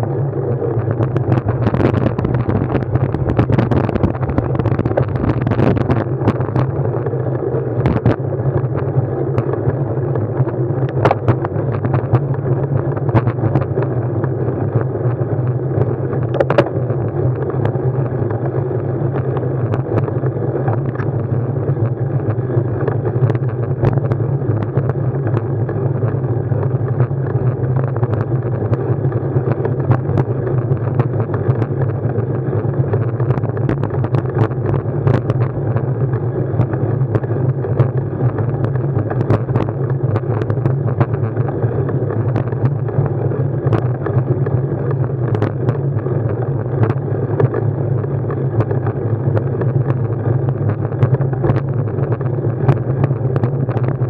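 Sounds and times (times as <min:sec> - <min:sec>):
road rumble: 0:00.0 - 0:54.0
wind on microphone: 0:00.0 - 0:54.0.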